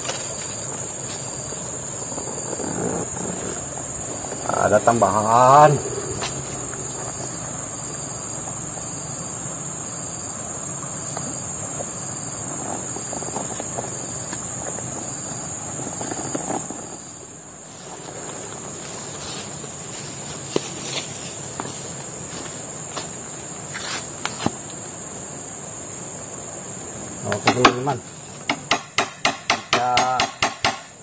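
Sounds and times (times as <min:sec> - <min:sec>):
forest insects droning: 0:00.0 - 0:31.0.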